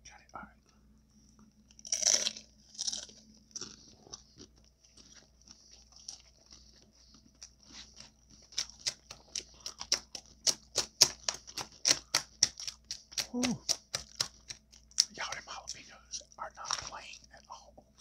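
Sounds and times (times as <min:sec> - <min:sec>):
chewing: 0:01.3 - 0:18.0
crunching tortilla chips: 0:01.7 - 0:17.2.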